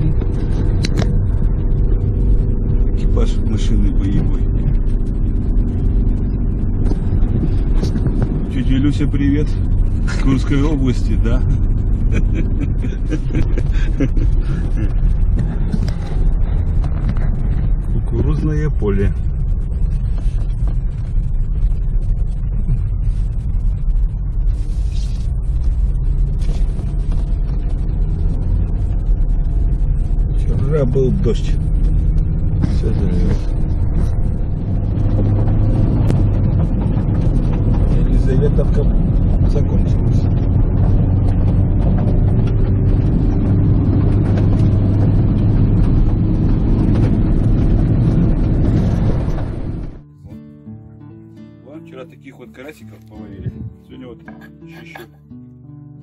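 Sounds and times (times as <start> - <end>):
car knocking and rattling: 0.0 - 24.6, 25.2 - 50.1
car engine and tyres rumbling: 0.0 - 56.0.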